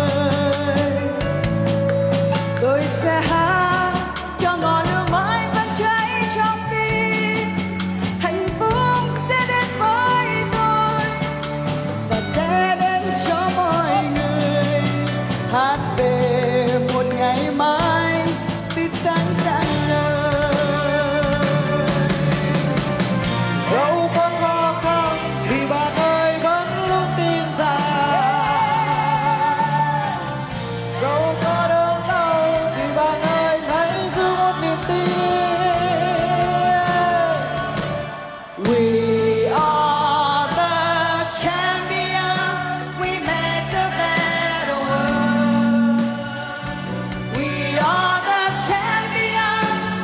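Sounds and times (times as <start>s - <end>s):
woman singing pop song with band: 0.0s - 1.7s, 2.3s - 50.0s.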